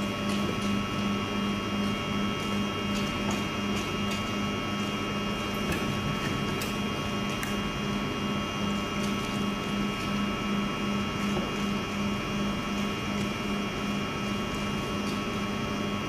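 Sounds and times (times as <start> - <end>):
machine pulsing low hum: 0.0 - 16.0.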